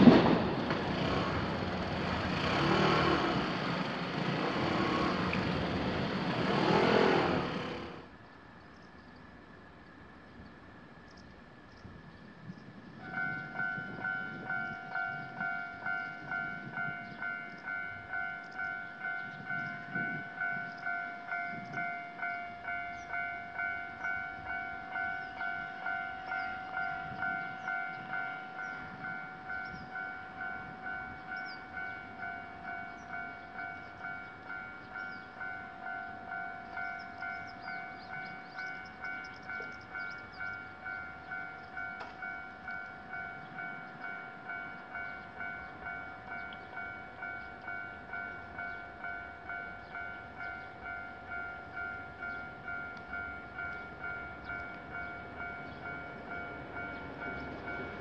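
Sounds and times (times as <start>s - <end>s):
railroad crossing bell ringing: 0.0s - 8.1s, 12.9s - 58.0s.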